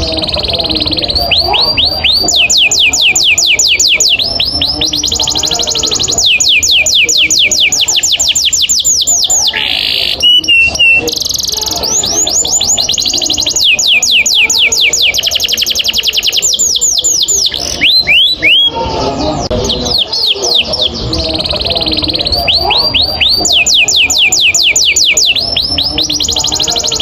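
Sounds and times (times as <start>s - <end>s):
canary singing trill: 0.0s - 27.0s.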